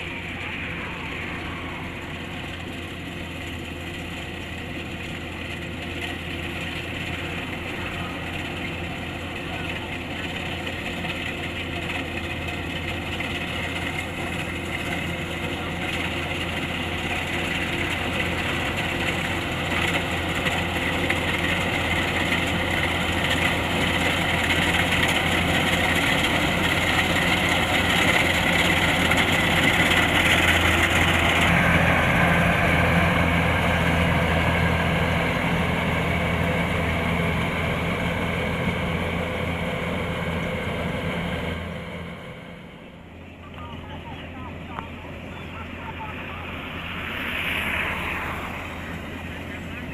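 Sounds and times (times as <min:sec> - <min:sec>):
constant low hum: 0:00.0 - 0:49.9
diesel engine running: 0:00.0 - 0:49.9
whir of threshing machinery: 0:00.0 - 0:49.9.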